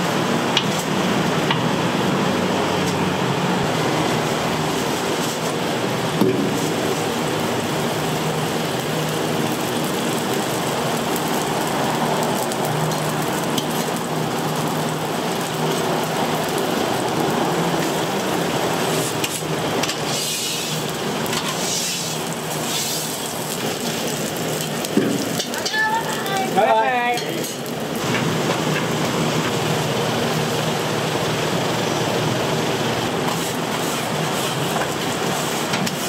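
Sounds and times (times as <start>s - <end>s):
food sizzling on a griddle: 0.0s - 36.0s.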